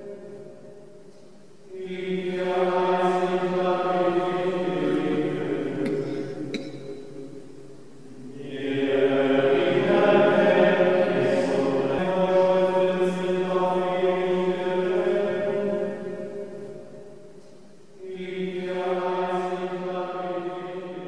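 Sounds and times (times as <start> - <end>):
voices chanting sustained notes: 0.0 - 21.0.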